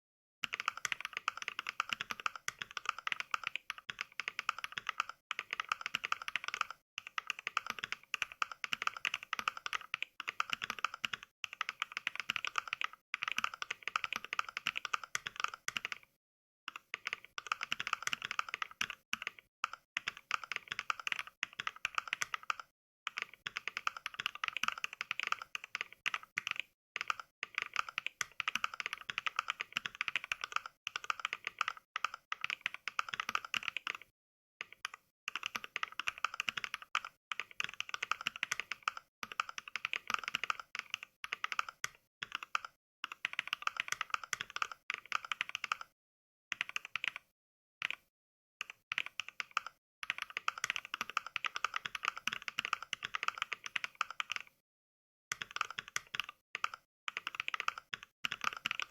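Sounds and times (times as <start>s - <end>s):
mechanical keyboard typing: 0.4s - 16.1s, 16.7s - 45.9s, 46.5s - 54.6s, 55.3s - 58.9s.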